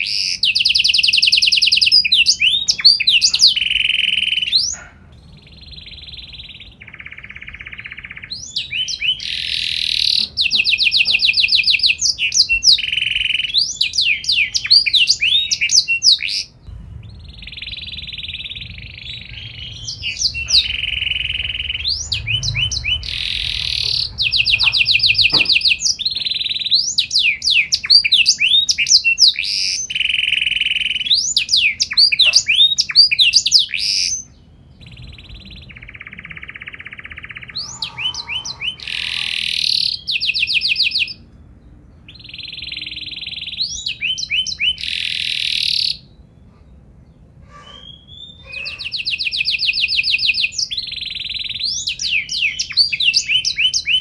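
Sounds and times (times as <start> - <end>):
canary singing: 0.0 - 41.3, 42.0 - 46.4, 47.2 - 54.0.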